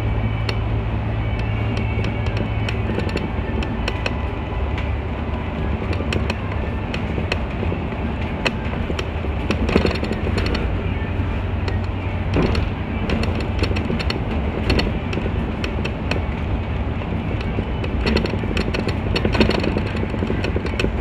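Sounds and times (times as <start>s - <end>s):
bus engine rumble: 0.0s - 21.0s
road noise: 0.0s - 21.0s
short clicks and rattles: 1.2s - 21.0s.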